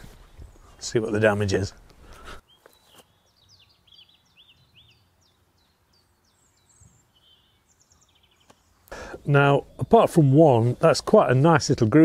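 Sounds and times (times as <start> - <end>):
faint bird chirping: 0.1 - 11.4.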